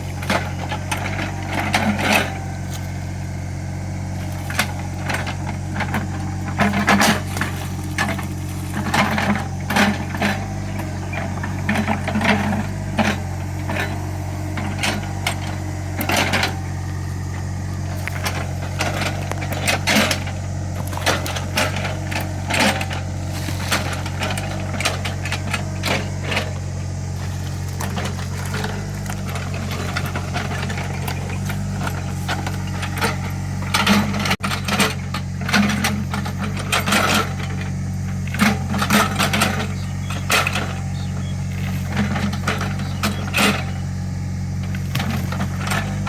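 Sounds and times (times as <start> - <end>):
excavator bucket knocking and clattering: 0.0 - 46.0
excavator diesel engine running: 0.0 - 46.0.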